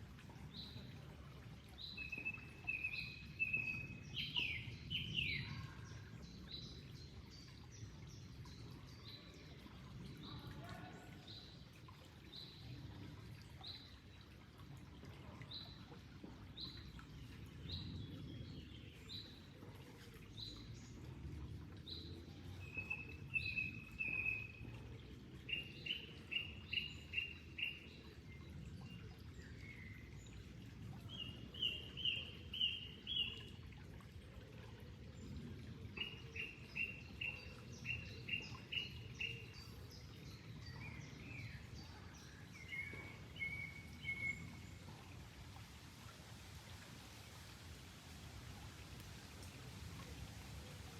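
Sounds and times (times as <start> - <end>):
flowing water: 0.0 - 50.9.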